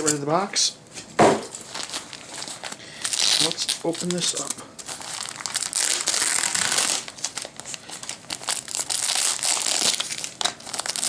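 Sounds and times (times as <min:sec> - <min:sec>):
packing material crinkling: 0:01.5 - 0:11.0.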